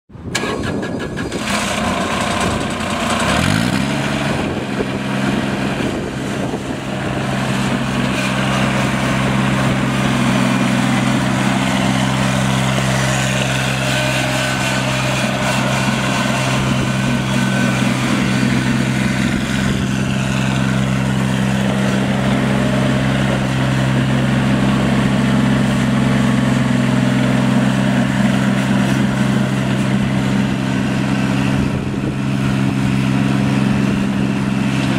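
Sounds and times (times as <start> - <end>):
lawn tractor engine running: 0.2 - 34.9.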